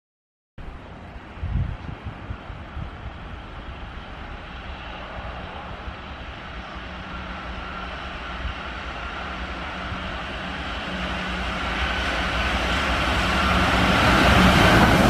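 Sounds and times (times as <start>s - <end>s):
electric train running on rails: 0.7s - 15.0s
train whine: 0.7s - 15.0s.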